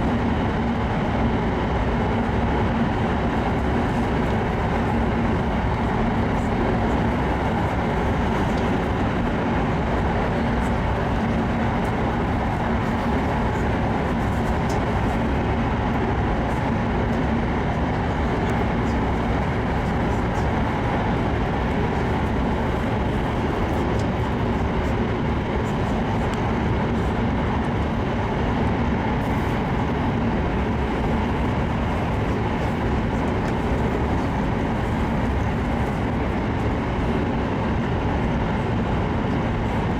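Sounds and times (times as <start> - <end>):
train rolling rumble: 0.0 - 39.9.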